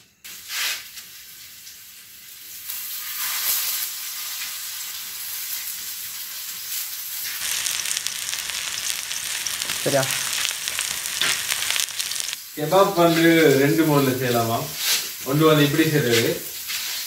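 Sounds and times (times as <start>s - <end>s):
skewers sizzling in oil: 0.2s - 17.0s.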